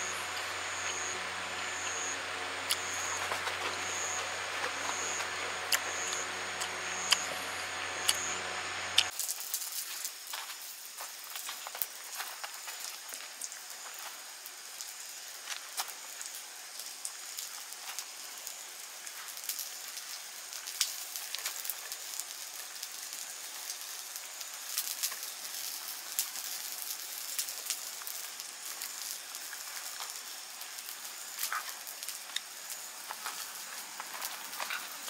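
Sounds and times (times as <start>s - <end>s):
light rain on tent: 0.0s - 35.0s.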